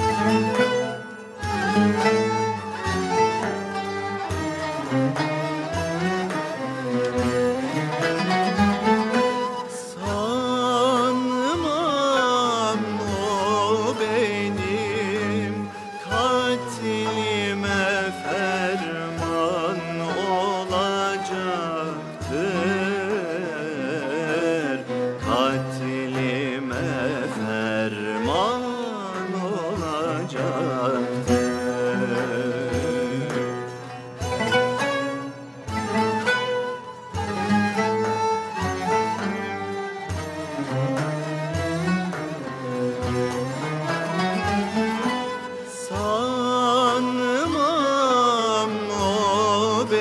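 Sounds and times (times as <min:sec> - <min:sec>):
person singing ornamented melody: 0:00.0 - 0:40.8, 0:41.5 - 0:50.0
string accompaniment: 0:00.0 - 0:50.0.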